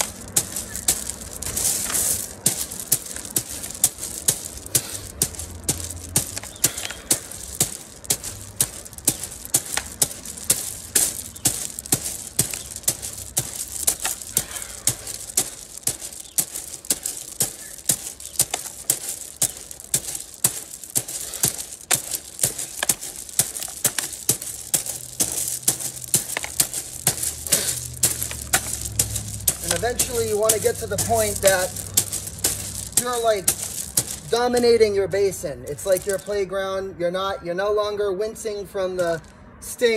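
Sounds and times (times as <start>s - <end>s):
hands striking gravel: 0.0s - 36.4s, 39.0s - 39.3s.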